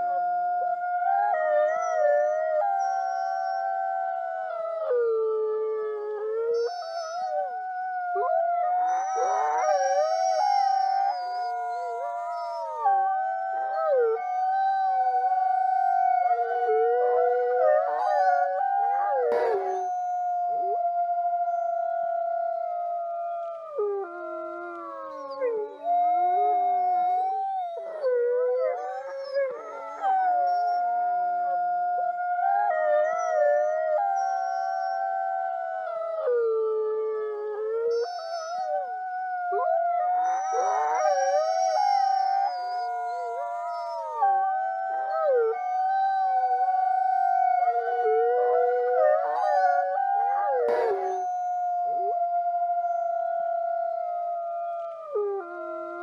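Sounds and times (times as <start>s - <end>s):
wolves howling in chorus: 0.0s - 56.0s.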